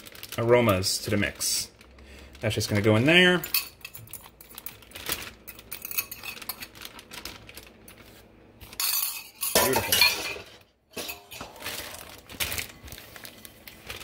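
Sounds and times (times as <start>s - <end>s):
plastic bag crinkling: 0.0s - 8.8s, 11.3s - 14.0s.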